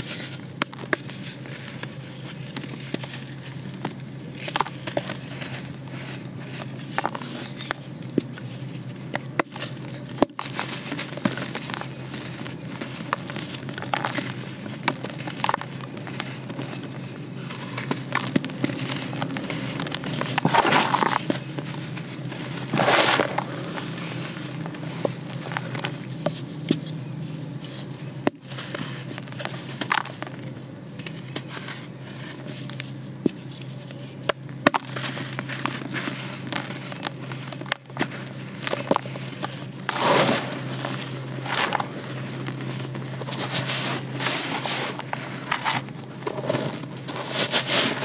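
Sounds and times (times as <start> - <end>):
dry dirt crunching by hand: 0.0 - 48.0.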